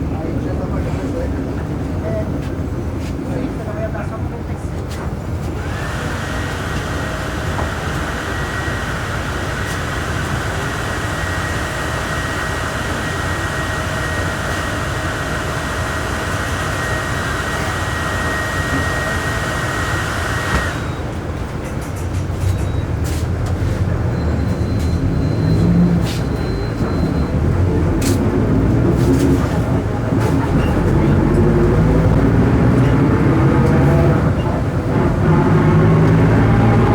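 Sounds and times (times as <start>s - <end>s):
bus engine running: 0.0s - 36.9s.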